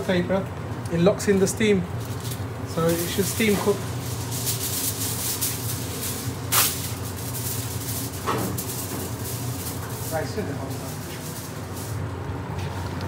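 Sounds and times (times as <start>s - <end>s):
kitchen foil crinkling: 1.3s - 12.1s.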